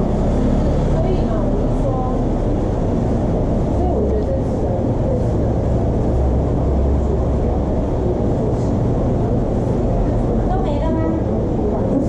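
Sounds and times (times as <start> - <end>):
low rumble of eatery background: 0.0 - 12.0.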